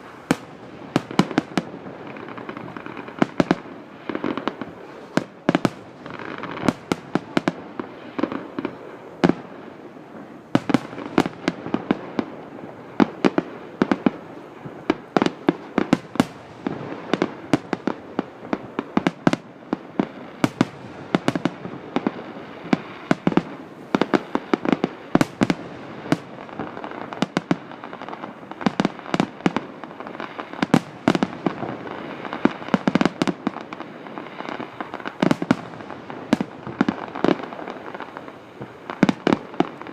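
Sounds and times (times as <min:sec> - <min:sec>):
continuous background noise: 0:00.0 - 0:39.9
fireworks bursts and bangs: 0:00.0 - 0:39.9.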